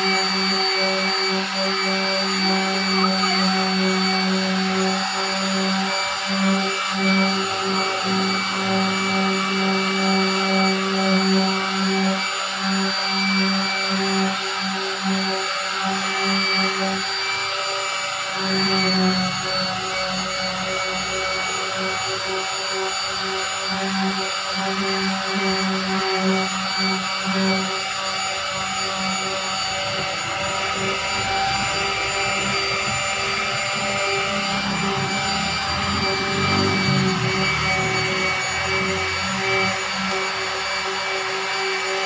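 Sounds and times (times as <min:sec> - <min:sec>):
electric sander motor hum: 0:00.0 - 0:42.0.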